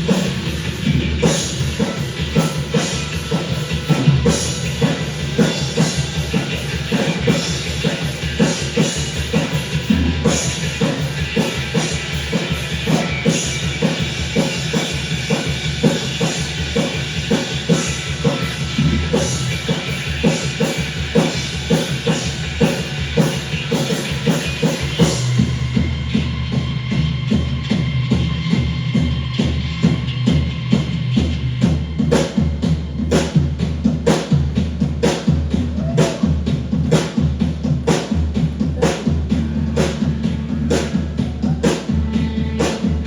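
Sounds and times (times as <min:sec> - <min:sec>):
rock music with drums: 0:00.0 - 0:43.0.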